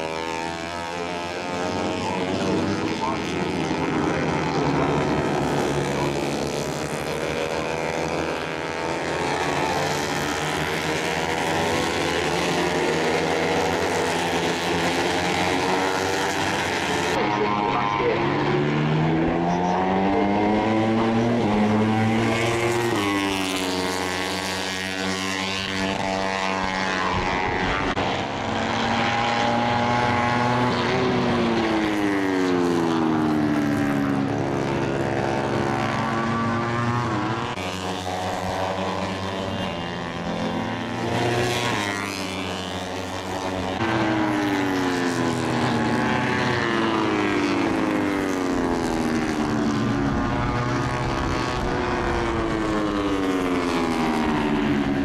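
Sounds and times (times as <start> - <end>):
racing motorcycles passing: 0.0 - 55.0.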